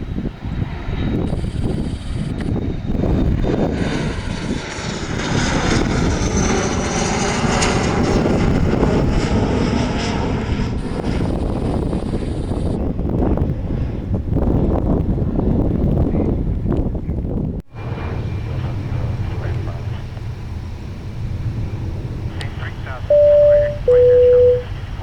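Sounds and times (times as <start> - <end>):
wind buffeting microphone: 0.0 - 23.1
jet engines roaring with whine: 0.0 - 25.0.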